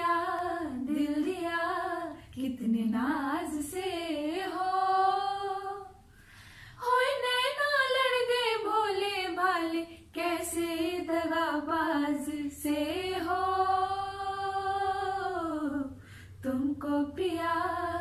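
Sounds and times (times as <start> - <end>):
women singing unaccompanied: 0.0 - 6.1, 6.8 - 18.0.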